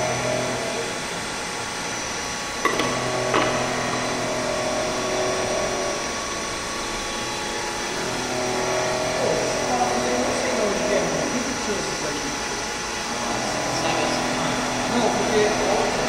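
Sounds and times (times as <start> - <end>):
milling machine motor hum: 0.0 - 16.0.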